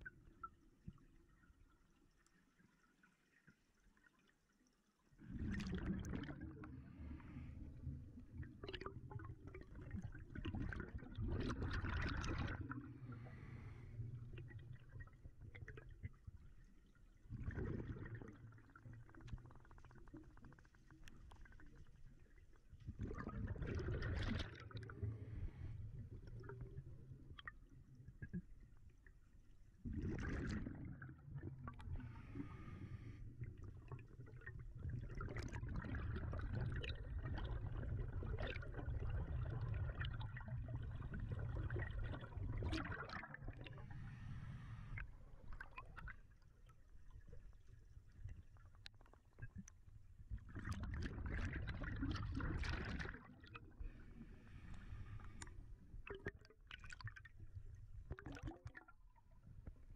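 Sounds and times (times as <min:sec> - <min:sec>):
underwater water gurgling: 0:00.0 - 0:59.9.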